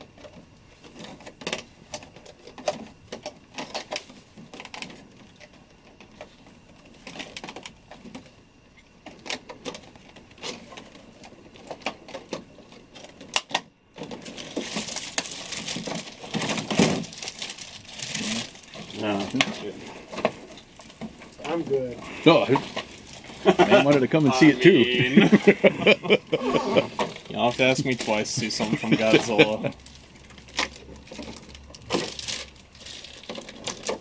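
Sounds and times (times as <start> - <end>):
plastic packaging crackling: 0.0 - 34.0.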